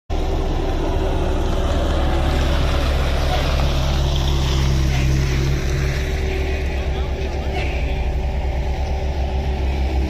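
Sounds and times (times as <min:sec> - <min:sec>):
paving machine engine drone: 0:00.1 - 0:10.0.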